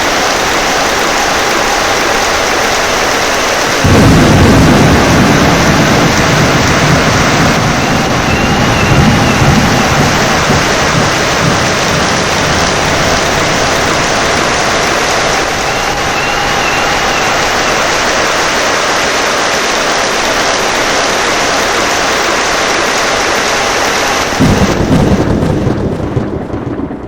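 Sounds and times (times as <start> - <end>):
heavy rain: 0.0 - 27.0
thunder rumbling: 0.0 - 27.0.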